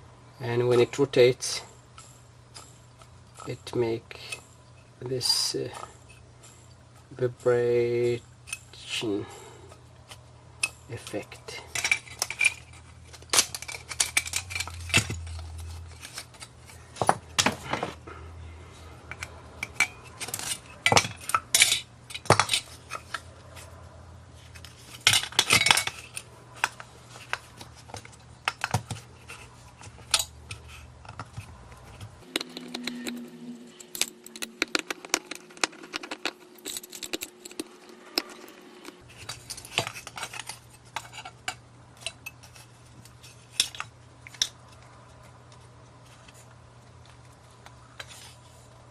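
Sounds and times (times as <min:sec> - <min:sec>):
small parts clicking and clinking: 0:00.4 - 0:18.0, 0:19.0 - 0:23.7, 0:24.4 - 0:48.4.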